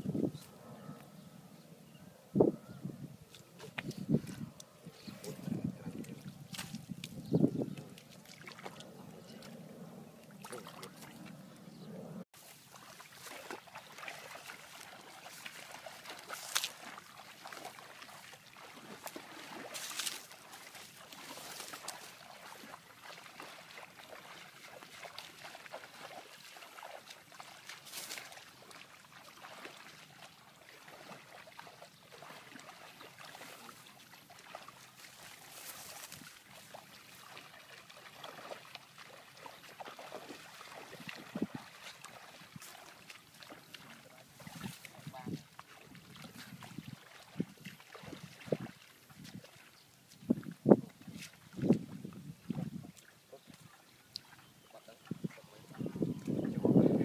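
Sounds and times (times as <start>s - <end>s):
water sloshing and trickling: 3.2s - 57.0s
water splashes: 3.3s - 9.6s, 10.2s - 11.6s, 12.4s - 57.0s.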